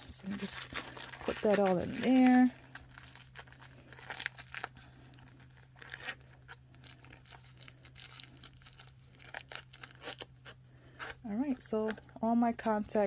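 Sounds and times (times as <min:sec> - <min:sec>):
paper crinkling and rustling: 0:00.0 - 0:10.6.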